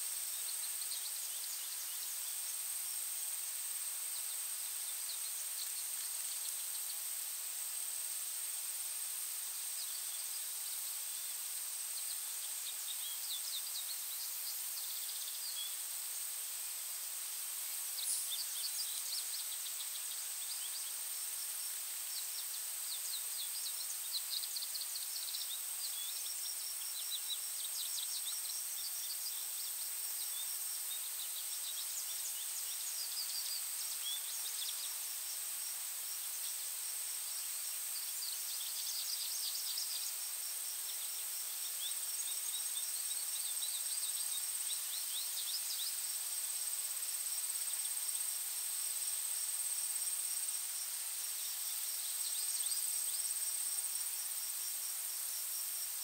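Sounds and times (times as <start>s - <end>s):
soft background hiss: 0.0s - 56.0s.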